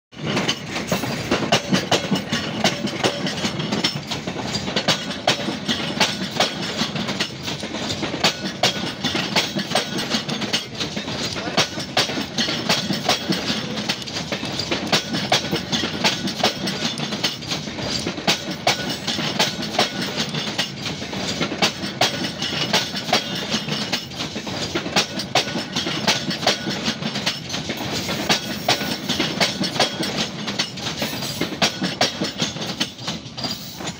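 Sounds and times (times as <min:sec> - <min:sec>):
train wheels rolling rumble: 0:00.1 - 0:33.9
wheels clacking over rail joint: 0:00.1 - 0:33.9.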